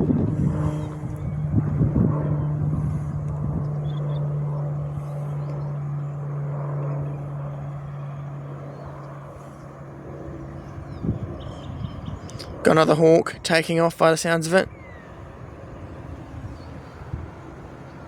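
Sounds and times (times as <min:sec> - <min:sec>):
propeller aircraft drone: 0:00.0 - 0:18.0.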